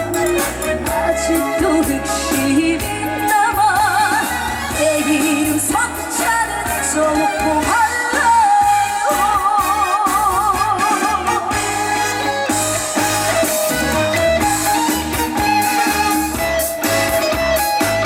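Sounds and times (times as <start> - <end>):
backing band with low beat: 0.0 - 18.0
vibrato lead melody: 0.0 - 18.0.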